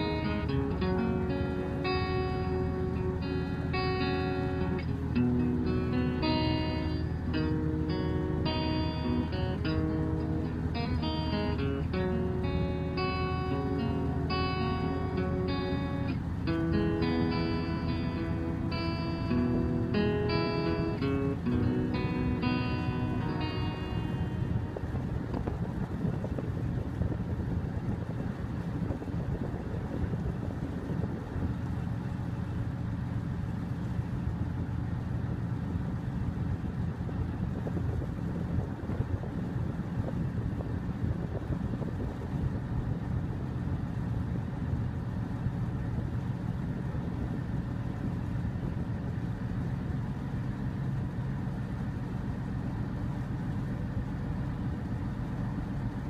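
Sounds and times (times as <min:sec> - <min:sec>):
ferry engine humming: 0:00.0 - 0:56.0.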